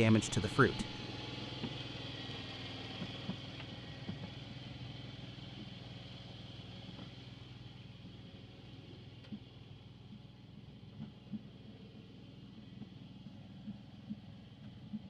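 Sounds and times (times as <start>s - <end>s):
machine engine running: 0.0s - 15.0s
faint clatter: 0.8s - 15.0s.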